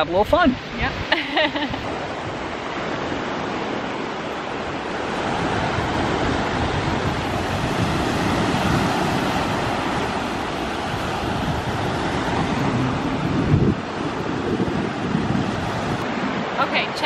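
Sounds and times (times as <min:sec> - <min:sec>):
waves breaking on beach: 0:00.0 - 0:17.0.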